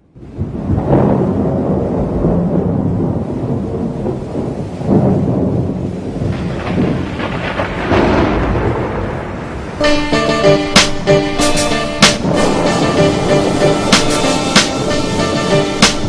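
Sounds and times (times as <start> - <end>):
steady rain: 0.0 - 16.0
rolling thunder: 0.1 - 16.0.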